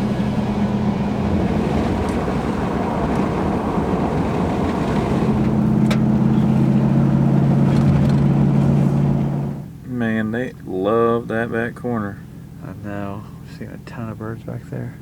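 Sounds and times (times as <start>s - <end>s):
road noise rumble: 0.0s - 15.0s
vehicle engine hum: 0.0s - 15.0s.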